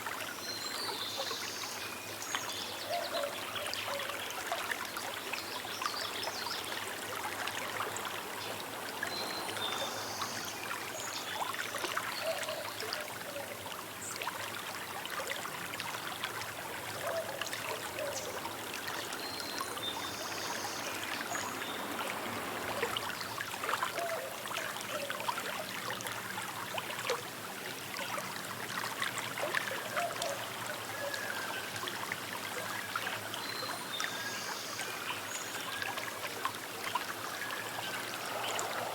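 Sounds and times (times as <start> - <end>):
river babbling over stones: 1.3 - 38.9.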